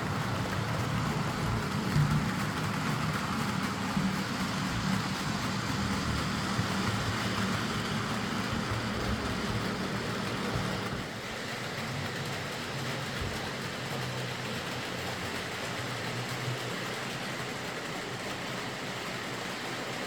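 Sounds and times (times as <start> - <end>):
model train motor hum: 0.0 - 20.0
wheels hissing on rail: 0.0 - 20.0.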